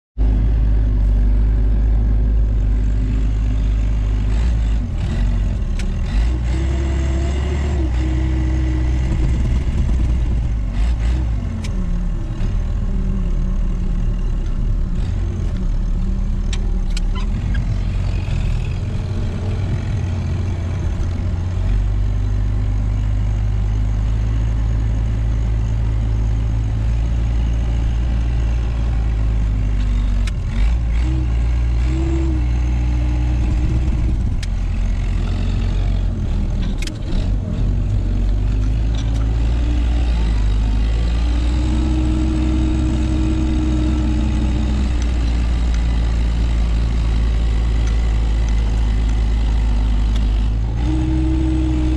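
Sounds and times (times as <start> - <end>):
tractor engine running: 0.2 - 51.9.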